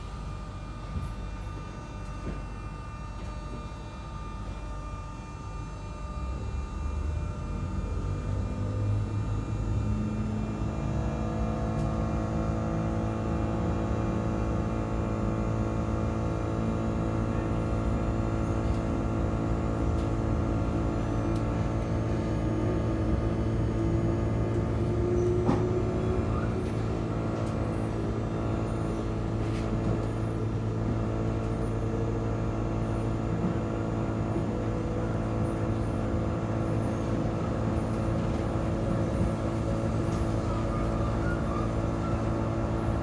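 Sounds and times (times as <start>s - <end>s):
machine engine droning and whining: 4.5s - 43.0s.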